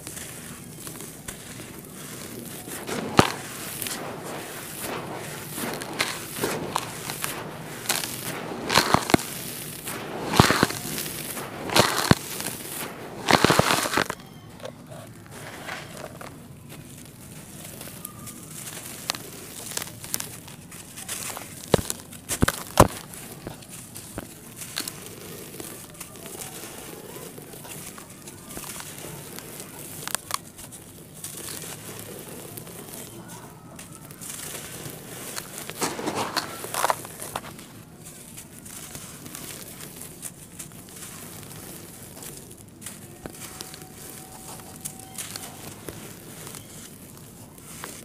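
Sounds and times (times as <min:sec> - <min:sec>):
dirt lumps snapping: 0:00.0 - 0:48.0
dirt pouring: 0:00.0 - 0:48.0
dry dirt crunching: 0:00.0 - 0:48.0.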